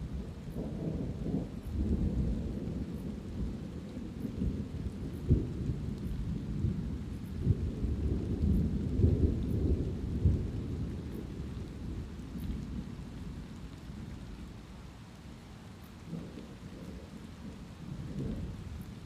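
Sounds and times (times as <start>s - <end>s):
light rain: 0.0s - 19.0s
thunder rumbling and cracking: 0.2s - 13.6s, 16.1s - 19.0s.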